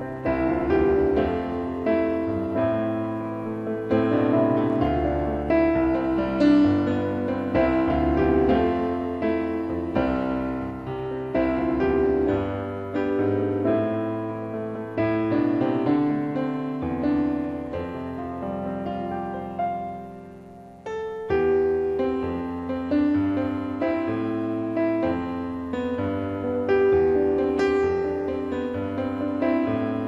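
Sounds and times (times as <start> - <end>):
piano playing gentle chords: 0.0 - 30.0.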